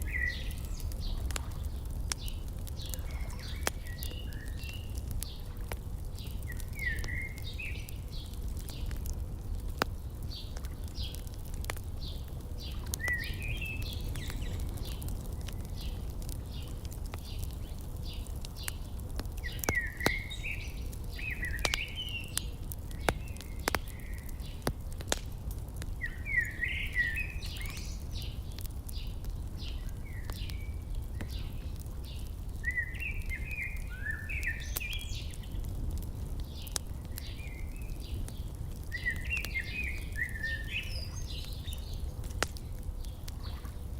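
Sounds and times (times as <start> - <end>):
songbirds chirping: 0.0 - 43.9
wood fire crackling: 0.0 - 43.9.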